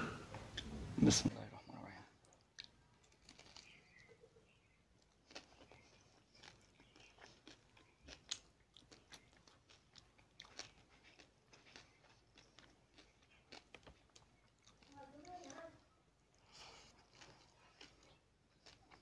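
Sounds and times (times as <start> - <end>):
chewing and crunching: 2.2 - 19.0.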